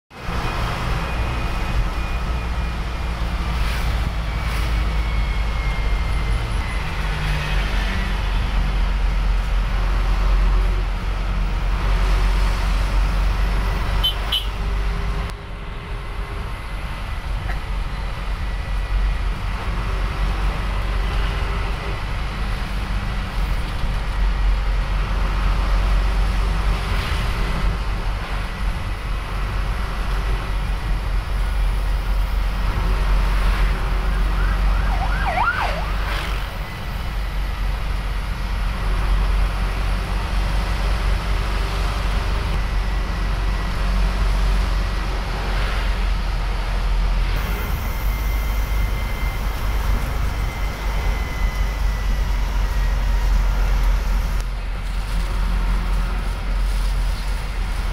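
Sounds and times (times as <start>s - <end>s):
diesel engine rumble: 0.1s - 57.9s
road noise: 0.1s - 57.9s.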